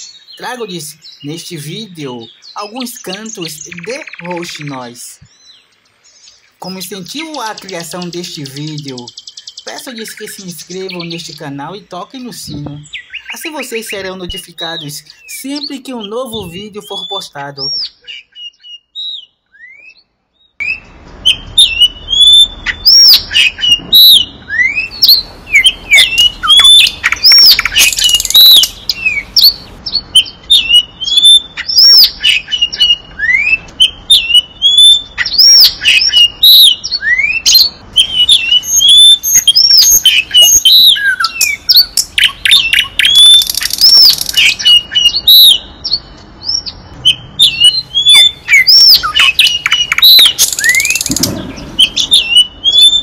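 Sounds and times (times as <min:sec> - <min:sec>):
harsh buzzy bird phrases: 0:00.0 - 0:18.2, 0:21.3 - 0:53.0
nightingale singing: 0:00.0 - 0:53.0.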